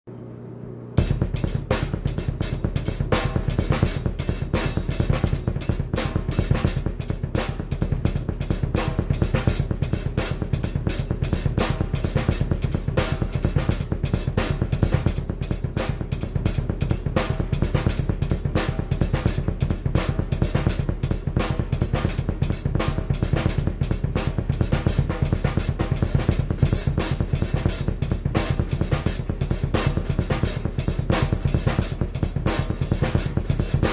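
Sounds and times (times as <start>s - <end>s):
rapid kick drum strokes: 1.0s - 33.9s
snare and cymbals: 1.0s - 33.9s.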